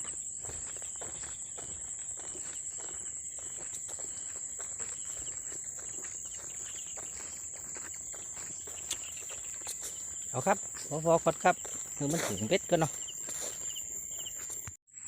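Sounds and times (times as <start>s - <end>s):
rustling footsteps: 0.0s - 14.8s
insects droning: 0.0s - 15.0s.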